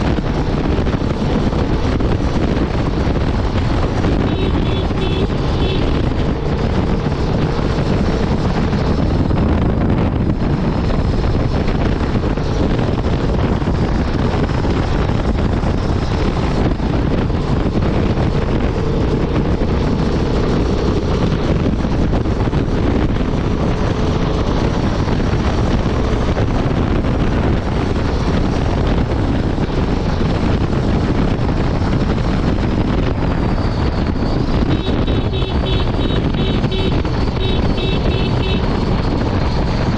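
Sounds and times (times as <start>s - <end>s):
motorcycle engine running: 0.0s - 39.9s
wind rushing on microphone: 0.0s - 39.9s.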